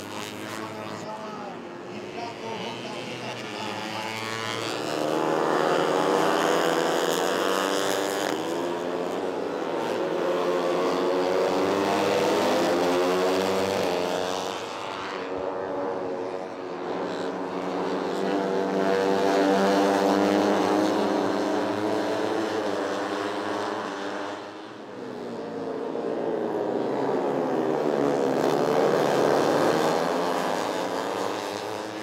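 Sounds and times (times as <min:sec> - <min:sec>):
race motorcycles revving: 0:00.0 - 0:32.0.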